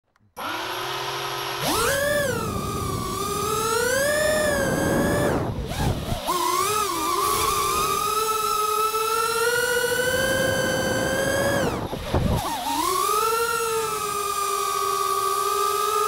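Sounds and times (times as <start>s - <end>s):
quadcopter motors whining: 0.3s - 16.0s.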